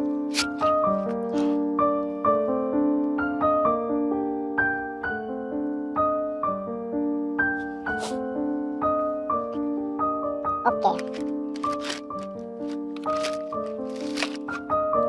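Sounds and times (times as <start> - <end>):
piano gentle melody: 0.0 - 15.0.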